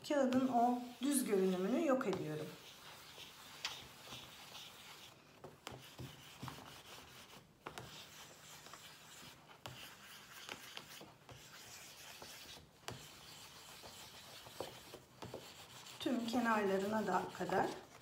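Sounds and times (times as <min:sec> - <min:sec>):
scratchy rubbing on paper: 0:00.1 - 0:18.0.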